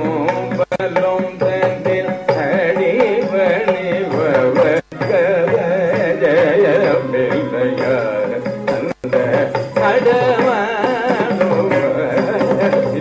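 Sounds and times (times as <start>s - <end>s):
keyboard and drum accompaniment: 0.0s - 13.0s.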